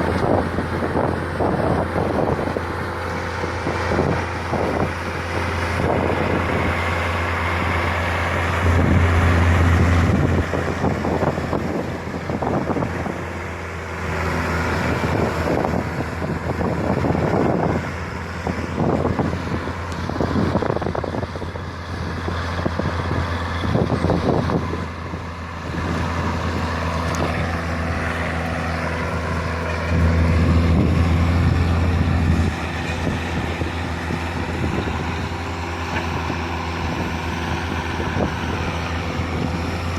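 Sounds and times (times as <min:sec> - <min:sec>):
wind on microphone: 0:00.0 - 0:13.6, 0:14.2 - 0:39.9
engine humming: 0:00.0 - 0:39.9.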